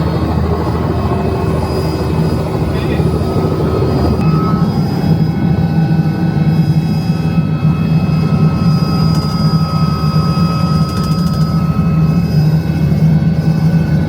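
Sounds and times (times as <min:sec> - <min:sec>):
helicopter engine drone: 0:00.0 - 0:14.0
high-pitched whine: 0:00.0 - 0:14.0.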